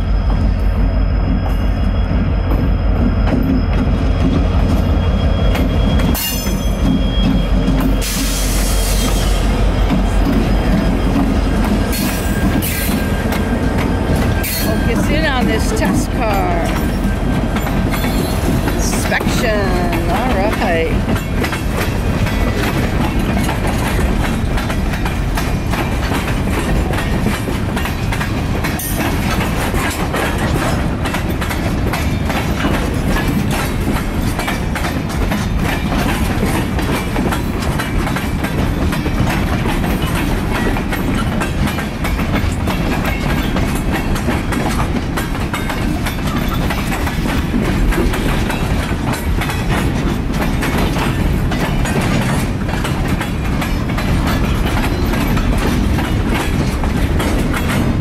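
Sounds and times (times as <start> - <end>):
freight train rolling past: 0.0 - 58.0
wheels clickety-clack and knocks: 2.4 - 58.0.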